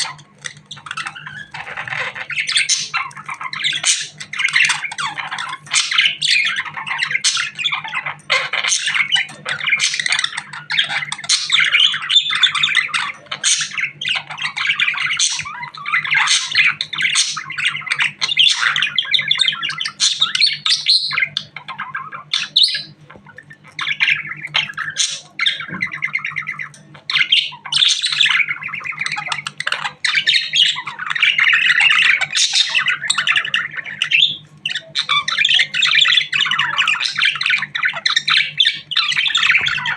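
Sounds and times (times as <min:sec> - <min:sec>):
budgerigar chattering and chirping: 0:00.0 - 0:39.9.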